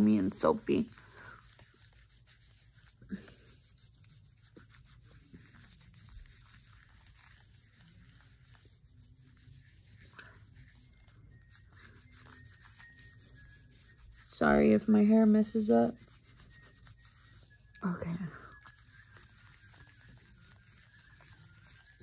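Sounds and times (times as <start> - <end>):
wet wipe scrubbing skin: 0.0 - 22.0.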